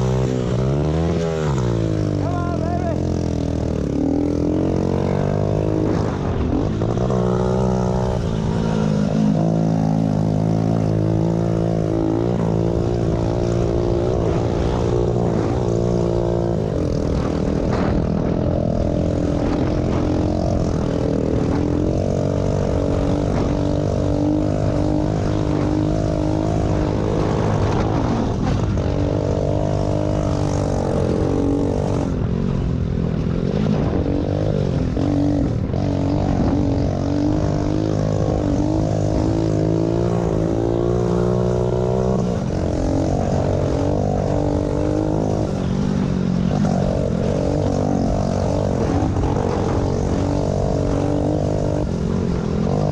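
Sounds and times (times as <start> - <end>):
pit bike engines buzzing: 0.0 - 52.9.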